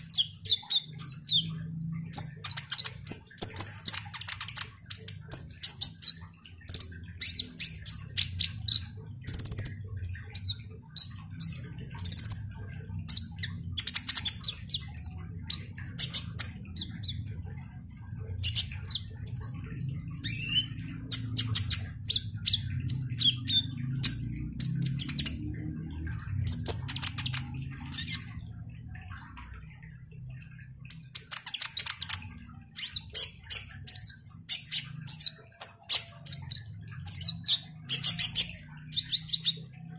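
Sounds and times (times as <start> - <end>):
sunbird twittering song: 0.0 - 17.4, 18.3 - 28.8, 29.7 - 39.9.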